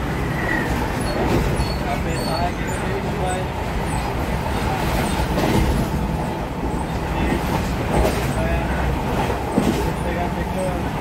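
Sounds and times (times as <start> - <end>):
train rumbling: 0.0 - 11.0
wheels clacking over rail joints: 0.0 - 11.0.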